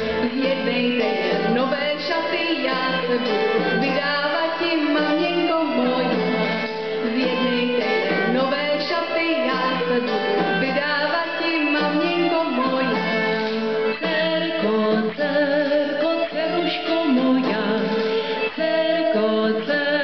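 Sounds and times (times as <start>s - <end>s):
folk band playing: 0.0s - 19.8s
acoustic guitar: 0.0s - 20.0s.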